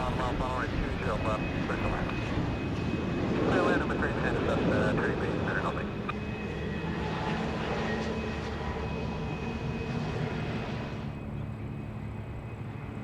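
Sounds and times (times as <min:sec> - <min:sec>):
aircraft engine whine: 0:00.0 - 0:13.0.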